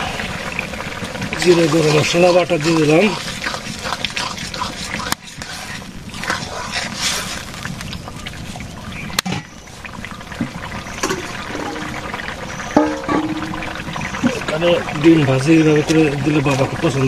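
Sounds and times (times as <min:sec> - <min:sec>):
curry sizzling and bubbling: 0:00.0 - 0:17.0.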